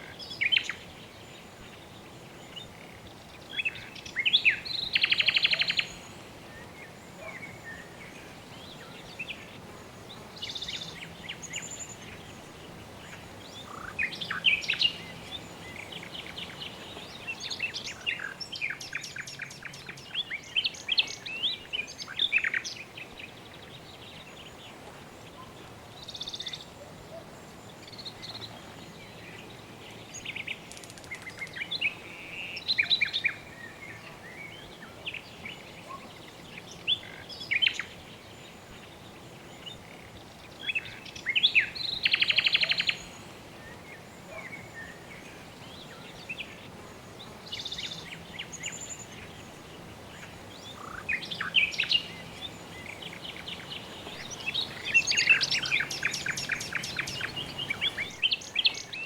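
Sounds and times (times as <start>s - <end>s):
birds chirping: 0.0s - 59.0s
faint steady hiss: 0.0s - 59.0s.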